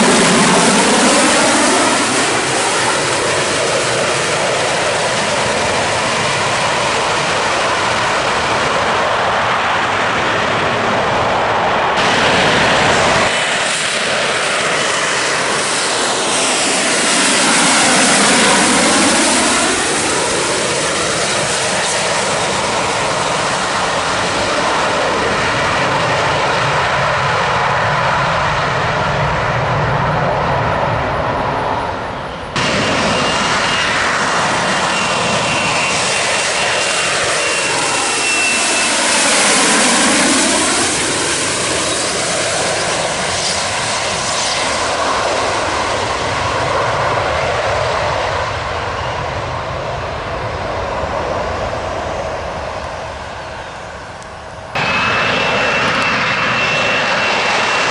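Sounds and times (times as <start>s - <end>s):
jet engine roaring: 0.0s - 57.9s.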